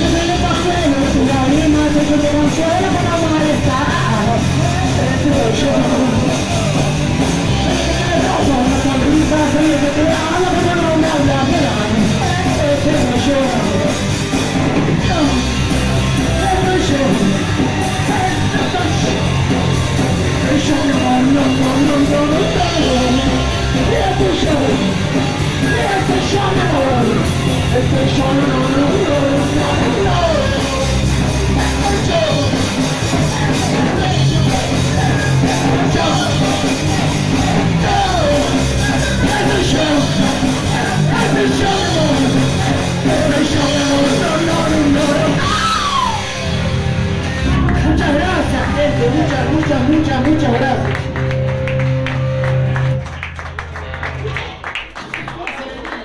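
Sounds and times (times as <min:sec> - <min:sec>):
lead vocal singing: 0:00.0 - 0:14.1, 0:14.9 - 0:46.6
punk rock band playing live: 0:00.0 - 0:55.0.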